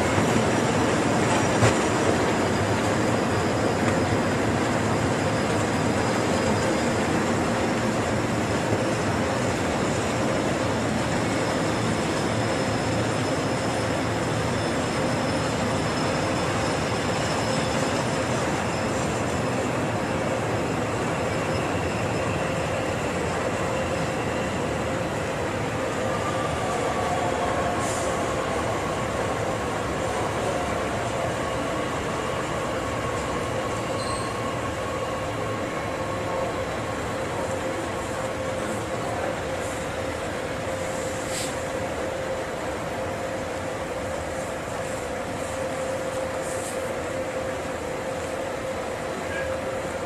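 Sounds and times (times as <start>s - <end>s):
train wheels rolling on rails: 0.0s - 50.0s.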